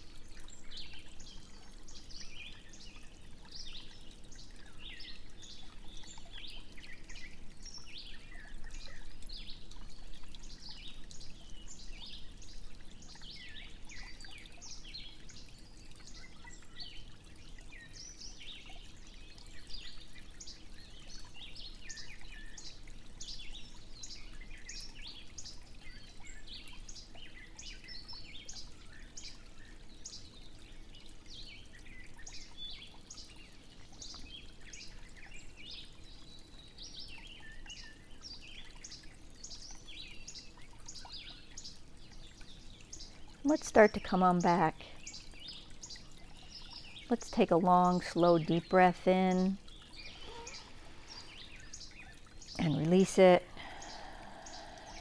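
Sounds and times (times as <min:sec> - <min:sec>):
birds chirping and trilling: 0:00.5 - 0:55.0.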